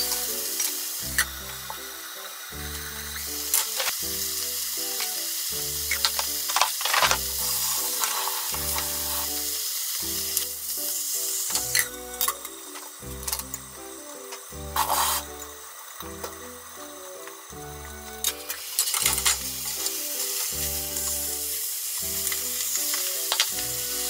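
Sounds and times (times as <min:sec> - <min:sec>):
chicken sizzling in frying pan: 0:00.0 - 0:24.0
soft background music with beat: 0:00.0 - 0:24.0.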